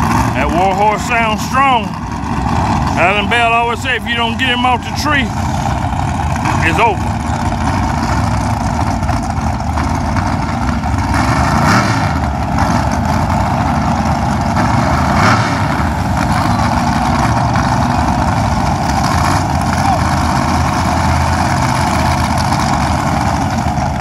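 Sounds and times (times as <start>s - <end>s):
race car engines revving: 0.0s - 24.0s.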